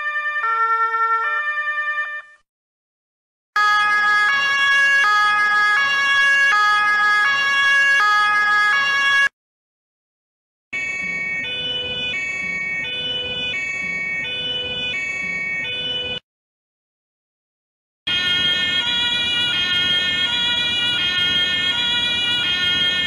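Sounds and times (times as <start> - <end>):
quieter two-tone siren: 0.0 - 2.4, 3.6 - 9.4, 10.8 - 16.2, 18.1 - 23.0
two-tone police siren: 0.0 - 2.4, 3.6 - 9.4, 10.8 - 16.2, 18.1 - 23.0.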